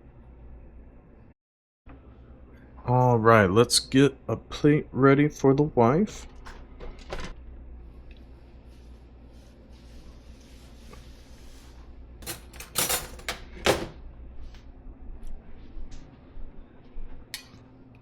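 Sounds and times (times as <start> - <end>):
low steady hum: 1.9 - 18.0.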